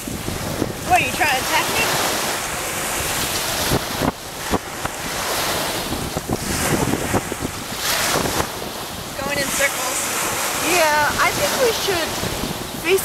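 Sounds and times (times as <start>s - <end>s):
small waves washing on shore: 0.0s - 13.0s
wind buffeting microphone: 0.0s - 13.0s.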